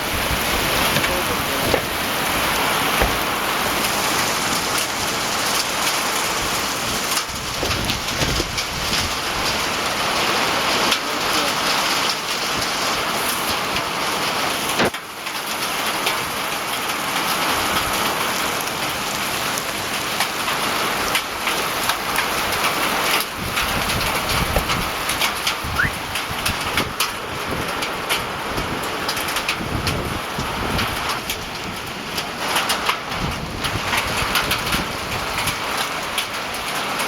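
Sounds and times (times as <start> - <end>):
raindrops clicking close by: 0.0 - 37.0
steady rain falling: 0.0 - 37.0.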